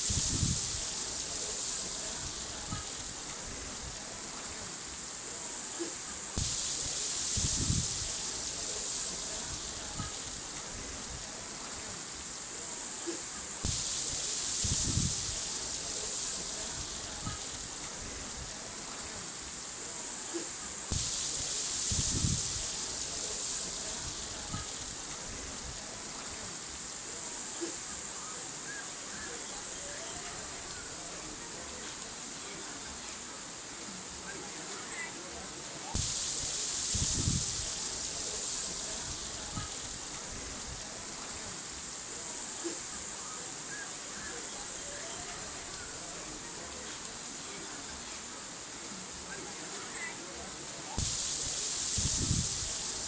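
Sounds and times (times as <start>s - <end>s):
water flowing and splashing: 0.0s - 32.3s, 35.7s - 47.6s, 50.9s - 53.0s.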